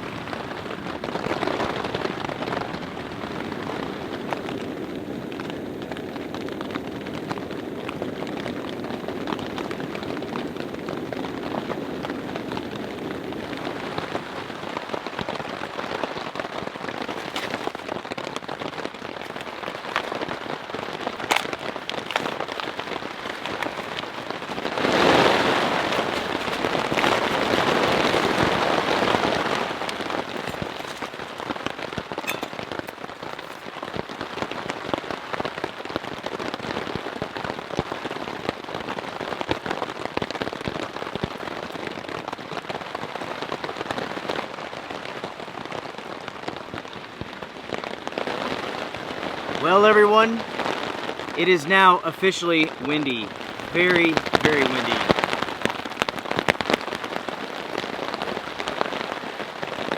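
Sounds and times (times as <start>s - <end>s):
rain pattering on a tarp: 0.0s - 59.9s
sharp raindrops striking tarp: 0.0s - 59.9s.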